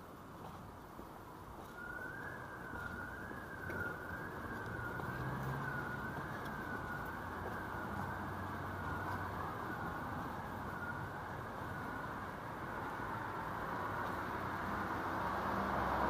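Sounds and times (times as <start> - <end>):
city traffic noise: 0.0 - 16.0
siren wavering: 1.6 - 15.4.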